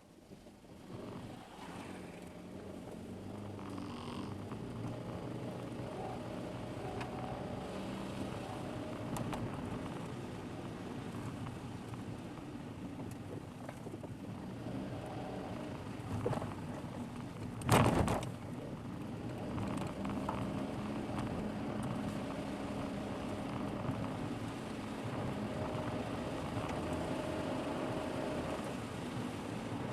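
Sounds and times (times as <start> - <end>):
car engine and road noise: 0.0 - 29.9.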